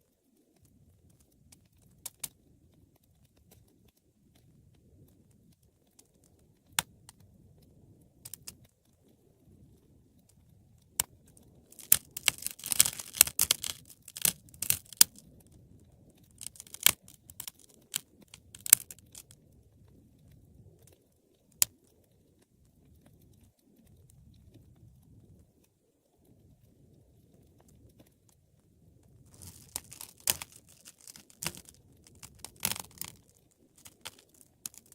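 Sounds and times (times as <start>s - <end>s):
wood fire crackling: 0.0s - 34.9s
low rumble of flames: 0.2s - 34.9s.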